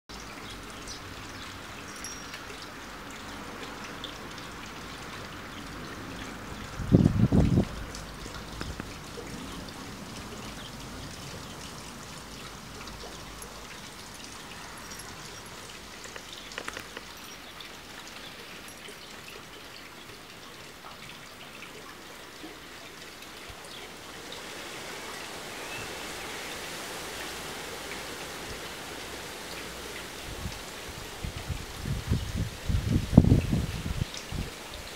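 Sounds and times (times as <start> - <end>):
outdoor garden hiss: 0.1 - 34.9.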